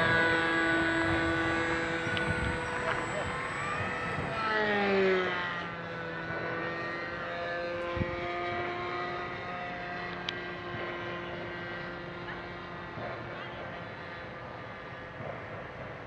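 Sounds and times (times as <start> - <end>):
model airplane engine flying past: 0.0 - 15.2.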